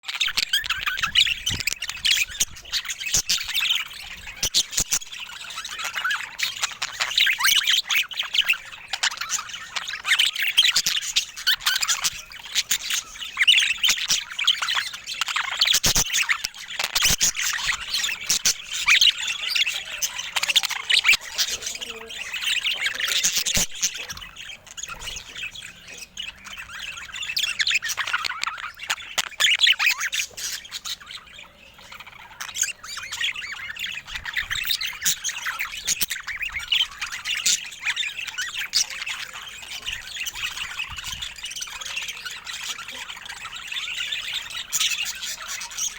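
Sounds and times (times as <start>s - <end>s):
budgerigars chattering and squawking: 0.0s - 45.9s.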